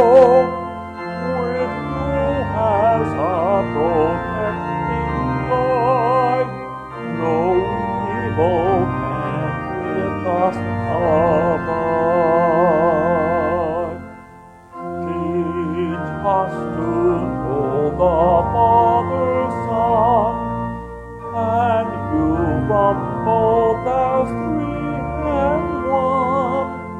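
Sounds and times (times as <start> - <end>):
organ chords: 0.0 - 26.9
person singing with vibrato: 0.0 - 26.9.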